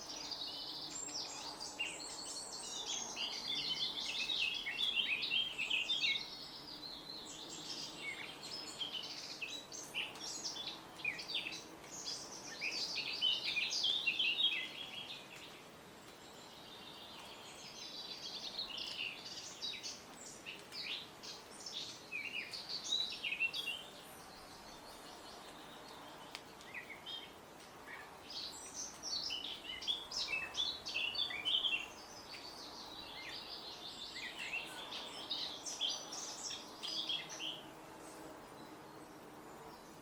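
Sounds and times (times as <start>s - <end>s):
faint steady hiss: 0.0s - 40.0s.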